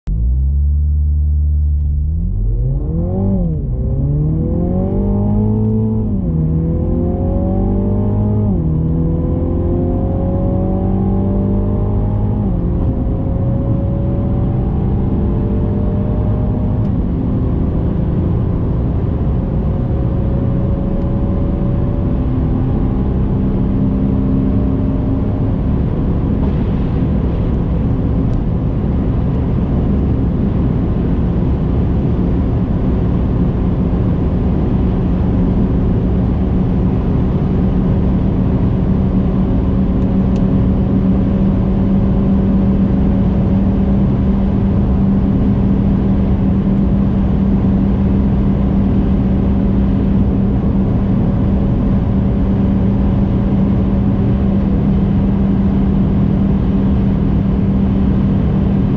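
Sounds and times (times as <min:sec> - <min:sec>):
car engine accelerating: 0:00.0 - 0:58.9
wind and road noise: 0:00.1 - 0:58.9.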